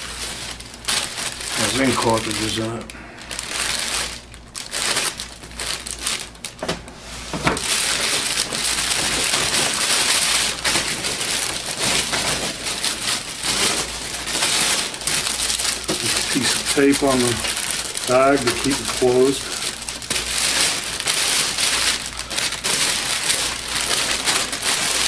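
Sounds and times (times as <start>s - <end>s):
plastic bag crinkling and rustling: 0.0s - 25.0s.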